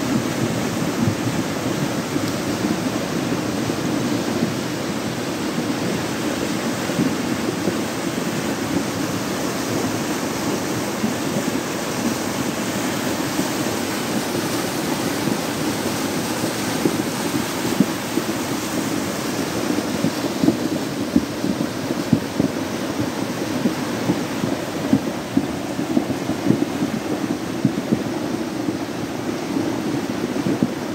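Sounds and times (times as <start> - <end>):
floodwater rushing: 0.0 - 30.9.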